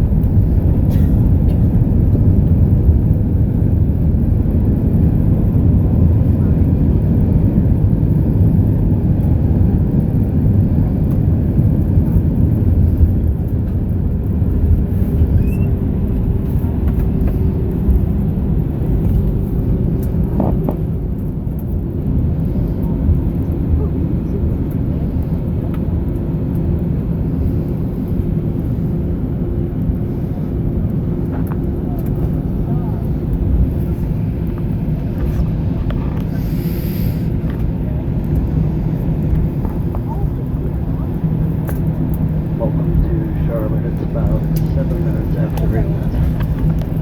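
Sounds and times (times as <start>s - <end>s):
airplane cabin rumble: 0.0s - 47.0s.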